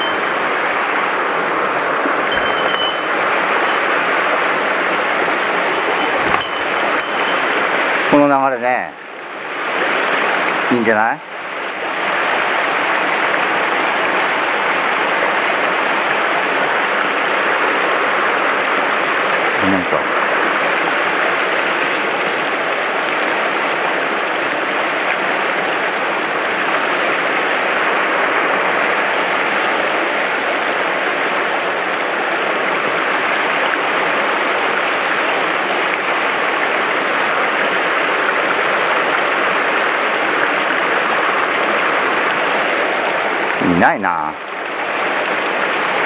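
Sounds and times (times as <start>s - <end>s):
stream rushing over rocks: 0.0s - 46.0s.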